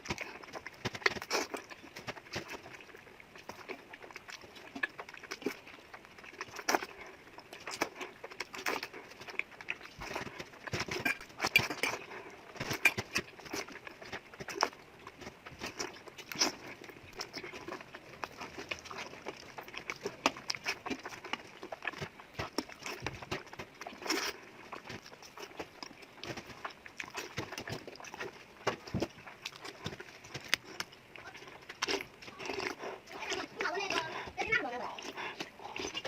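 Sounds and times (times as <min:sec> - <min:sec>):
person chewing and slurping noodles: 0:00.0 - 0:36.0.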